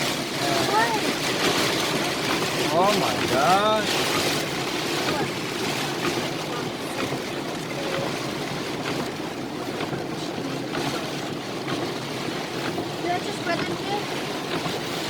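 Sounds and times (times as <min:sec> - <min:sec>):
heavy rain on a car roof: 0:00.0 - 0:15.0
road noise: 0:00.0 - 0:15.0.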